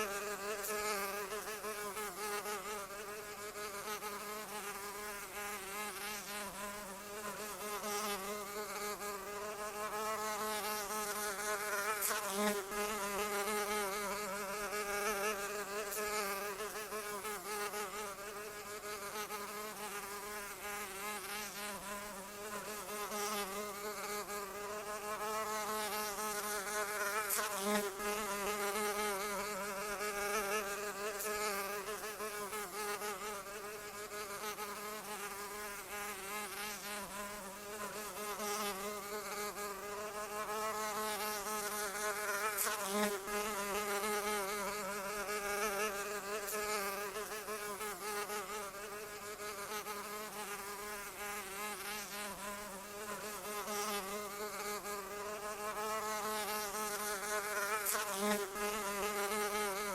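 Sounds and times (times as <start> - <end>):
flying insect buzzing: 0.0 - 59.9.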